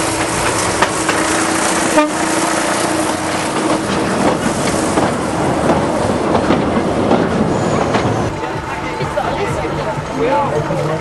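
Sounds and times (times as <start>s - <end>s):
train running with rumble: 0.0s - 11.0s.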